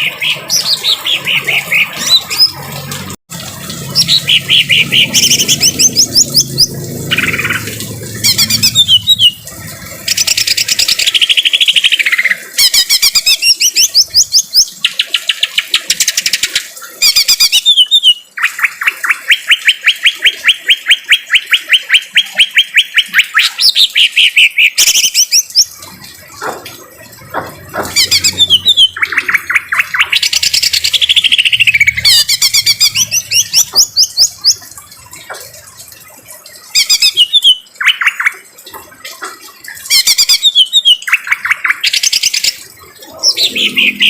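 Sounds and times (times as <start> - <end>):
bird singing rattling notes: 3.9 - 44.0.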